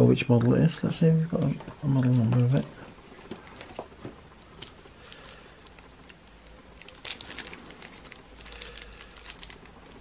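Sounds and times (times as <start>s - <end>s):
plastic sleeve crinkling: 1.4s - 10.0s.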